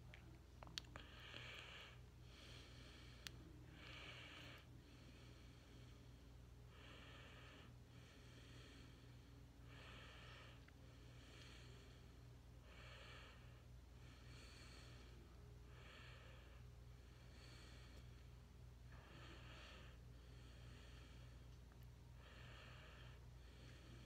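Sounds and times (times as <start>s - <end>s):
soft breathing: 0.0s - 24.0s
steady low hum: 0.0s - 24.0s.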